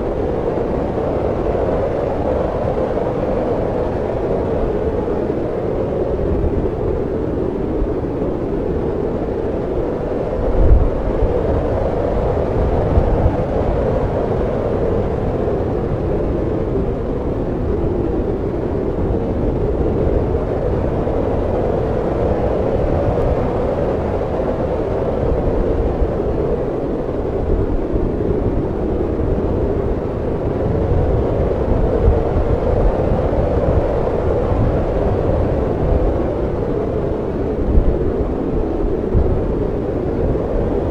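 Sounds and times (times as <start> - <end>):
snowstorm wind blowing: 0.0 - 40.9.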